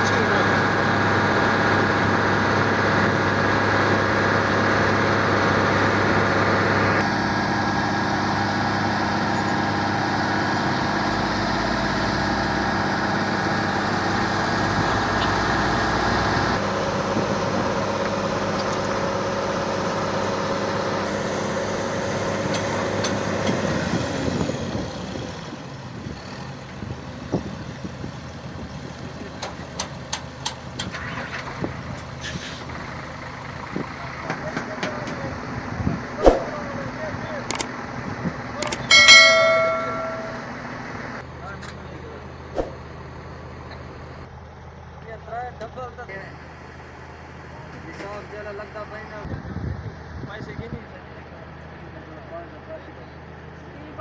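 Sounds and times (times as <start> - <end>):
road roller engine running: 0.0 - 49.3.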